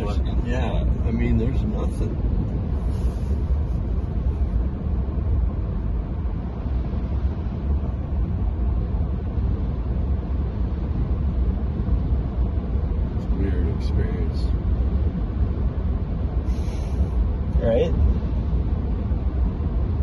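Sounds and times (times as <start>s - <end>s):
road and wind noise in cabin: 0.0s - 20.0s.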